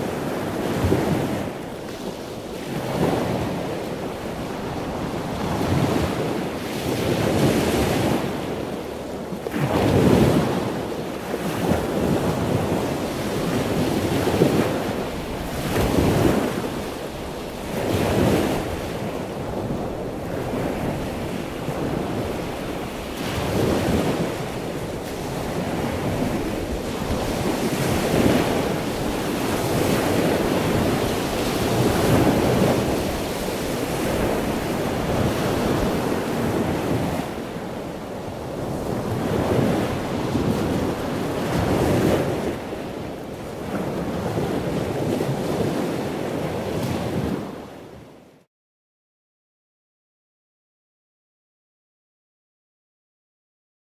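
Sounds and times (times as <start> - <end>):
wind buffeting microphone: 0.0 - 48.1.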